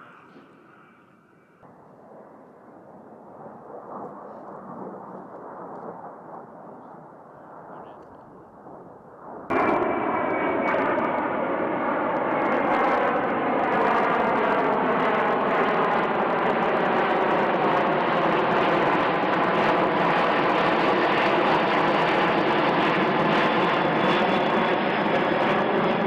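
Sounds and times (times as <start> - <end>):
jet flying low overhead: 0.0 - 26.0.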